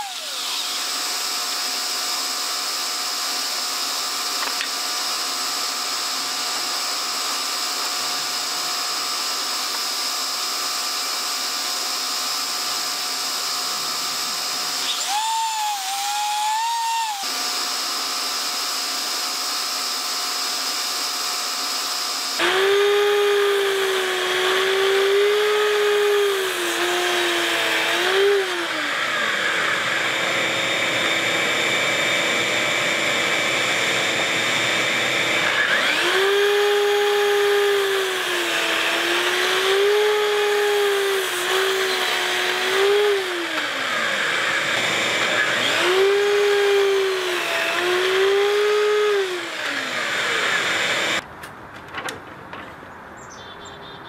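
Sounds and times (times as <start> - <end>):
dust extractor humming: 0.0 - 51.2
miter saw cutting wood: 0.0 - 51.2.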